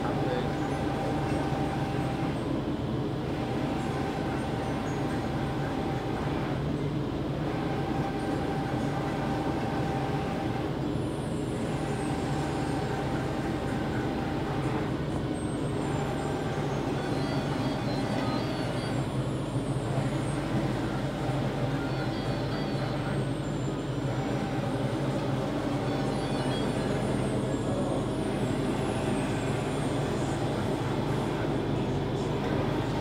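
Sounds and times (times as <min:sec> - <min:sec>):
printer mechanical hum: 0:00.0 - 0:33.0.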